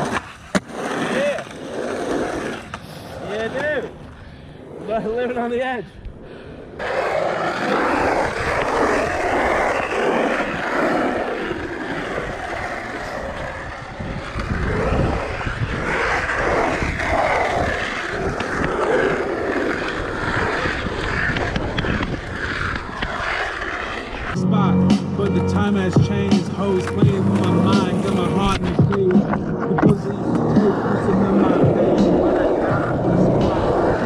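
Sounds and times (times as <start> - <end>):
skateboard wheels rumbling on pavement: 0.0 - 34.0.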